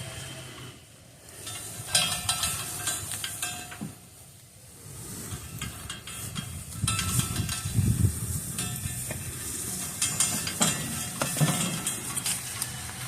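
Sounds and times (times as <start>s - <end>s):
cart wheels rolling rumble: 0.0s - 13.0s
light metal rattles and clicks: 1.3s - 4.2s, 5.2s - 13.0s.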